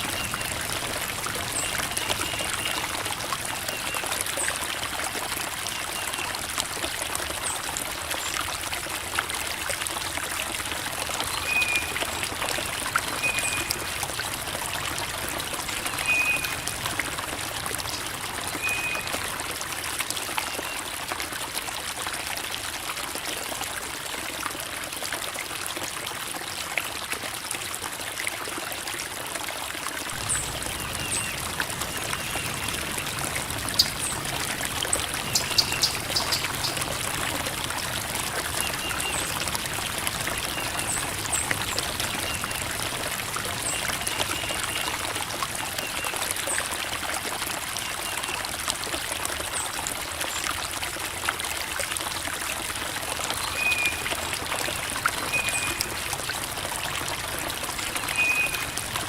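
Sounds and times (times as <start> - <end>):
creek babbling over rocks: 0.0 - 59.0.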